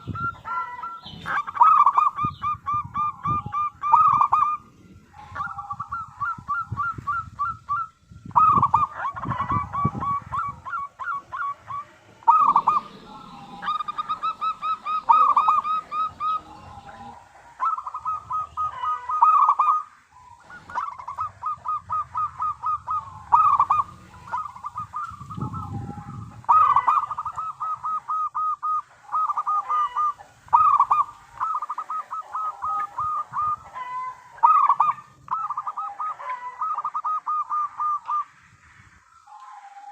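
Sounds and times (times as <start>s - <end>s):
dove cooing: 0.0s - 38.4s, 39.1s - 39.9s.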